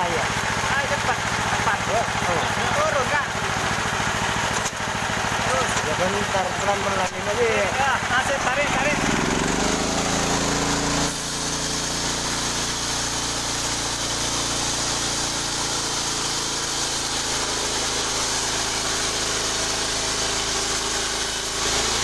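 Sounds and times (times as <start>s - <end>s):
saw blade cutting log: 0.0s - 22.0s
sawmill engine running: 0.0s - 22.0s.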